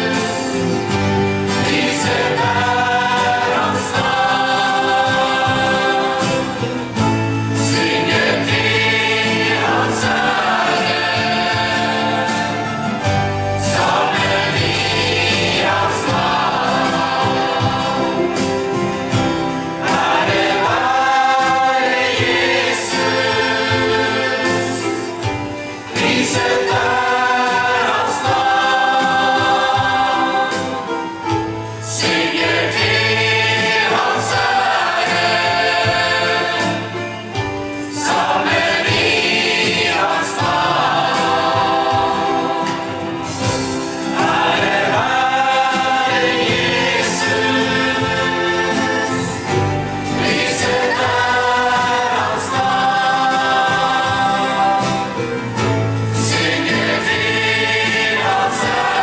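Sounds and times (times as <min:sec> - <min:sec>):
instrumental accompaniment: 0:00.0 - 0:59.0
mixed choir singing: 0:00.0 - 0:59.0.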